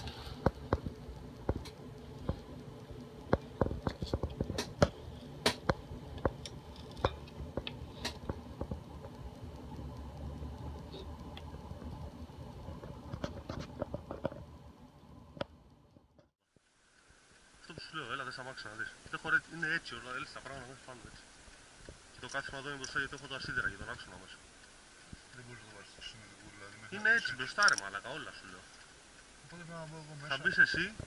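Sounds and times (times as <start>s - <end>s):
low steady rumble: 0.0s - 30.8s.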